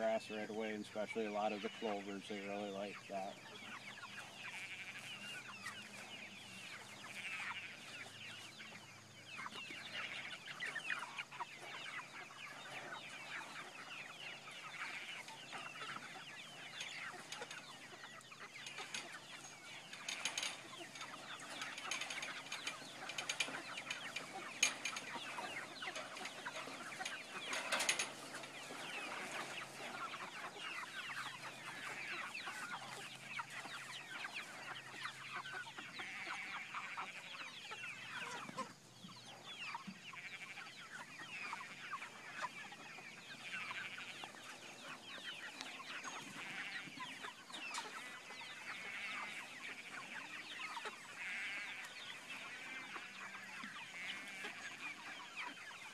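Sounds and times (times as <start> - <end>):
chickens clucking and chirping: 0.0 - 55.9.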